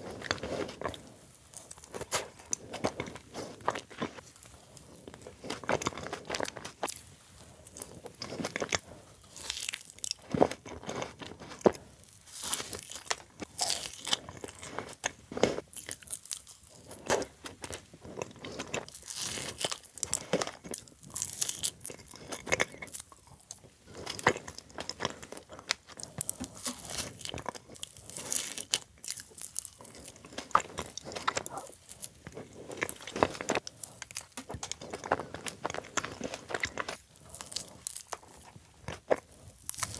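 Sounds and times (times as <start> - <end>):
crunchy chewing of sweets: 0.0 - 39.9.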